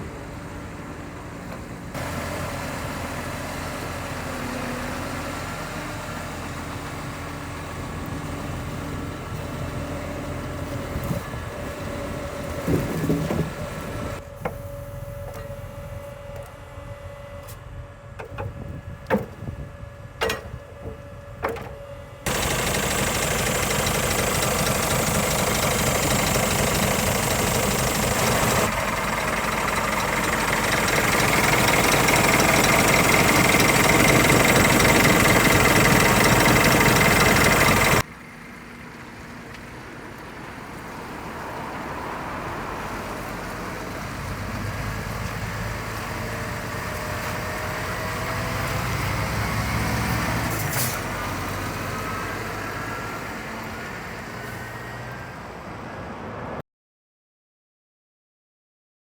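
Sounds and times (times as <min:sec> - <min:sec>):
truck engine running: 0:00.0 - 0:55.8.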